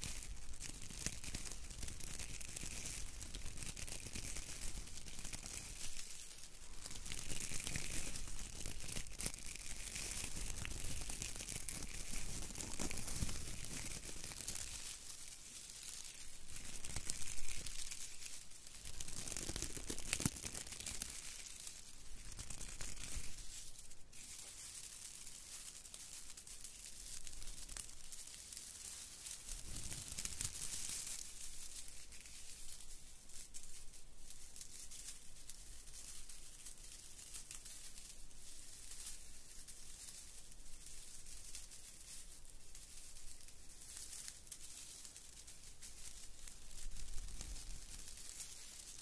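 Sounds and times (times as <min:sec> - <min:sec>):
pine branches rustling: 0:00.0 - 0:49.0.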